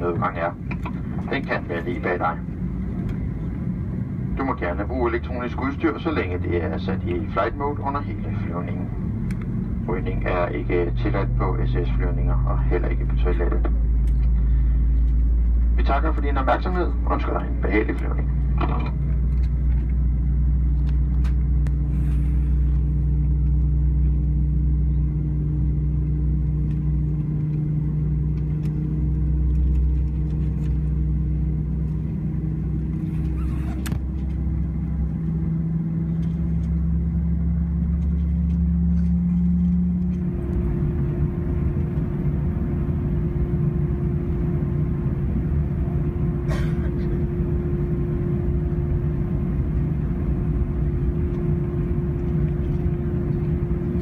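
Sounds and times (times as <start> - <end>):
airplane engine hum: 0.0 - 54.0
low rumble: 0.0 - 54.0.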